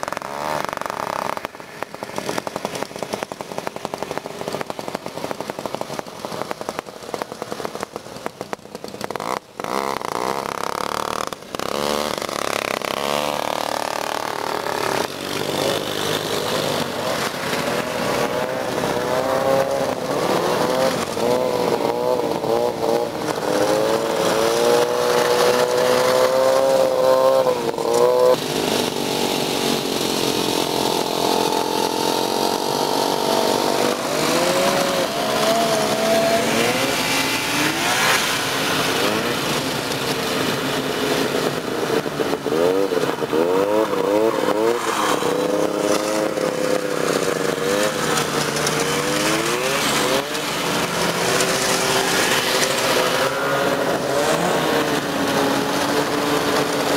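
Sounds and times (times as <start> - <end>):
snowmobile engines revving: 0.0 - 56.9.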